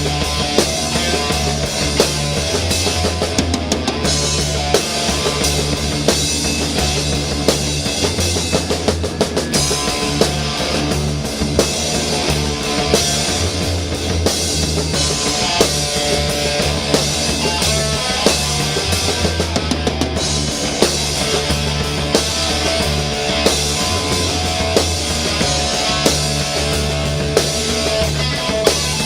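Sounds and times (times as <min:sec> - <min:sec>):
held bass notes: 0:00.0 - 0:29.0
rock drum kit beating: 0:00.0 - 0:29.0.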